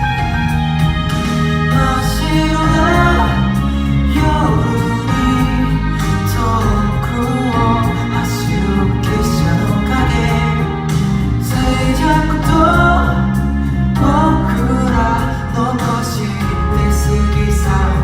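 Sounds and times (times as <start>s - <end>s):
drum hit: 0.0s - 18.0s
held bass notes: 0.0s - 18.0s
person singing: 0.0s - 18.0s.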